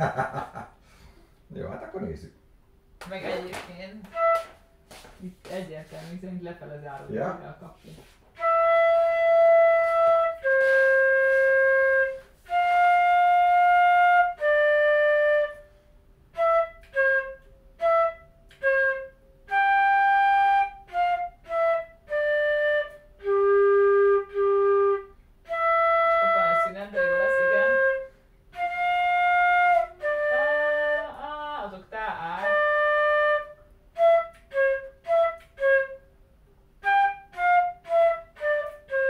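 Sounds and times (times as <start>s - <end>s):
flute playing a melody: 4.0s - 6.0s, 7.9s - 36.2s, 36.8s - 39.0s.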